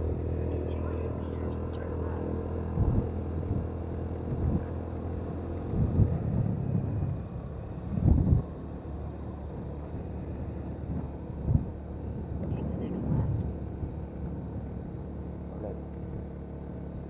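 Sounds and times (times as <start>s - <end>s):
wind gusts on microphone: 0.0s - 15.5s
motorcycle engine running: 0.0s - 17.0s.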